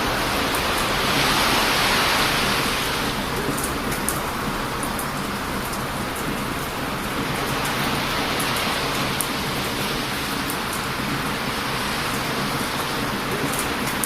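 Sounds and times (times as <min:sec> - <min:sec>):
surf breaking on beach: 0:00.0 - 0:14.0.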